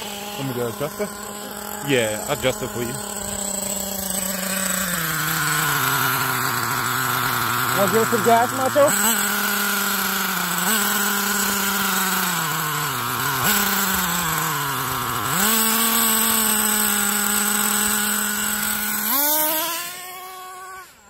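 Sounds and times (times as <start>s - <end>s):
small model engine revving: 0.0s - 21.0s.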